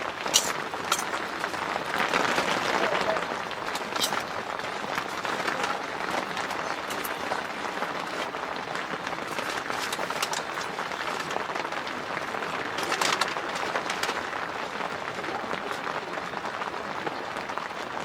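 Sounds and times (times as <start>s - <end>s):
rain falling on a tent: 0.0s - 18.0s.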